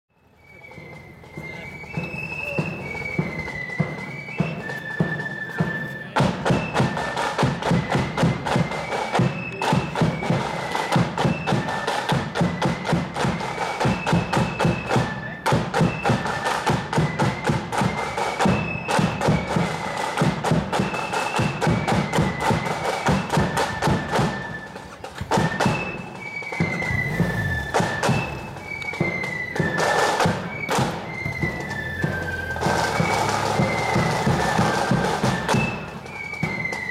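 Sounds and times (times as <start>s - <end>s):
flute melody: 0.1s - 36.9s
snare and bass drums beat: 0.7s - 36.9s.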